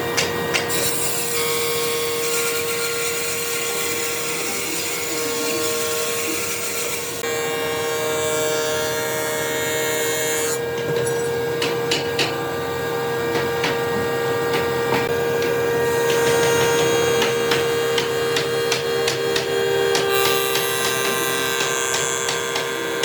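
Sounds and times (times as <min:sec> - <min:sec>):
power tool motor humming: 0:00.0 - 0:23.0.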